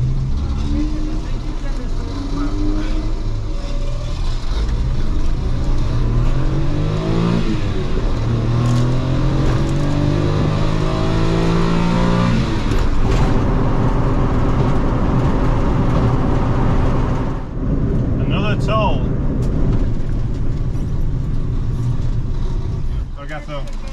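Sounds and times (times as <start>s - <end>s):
car engine accelerating hard: 0.0s - 23.2s.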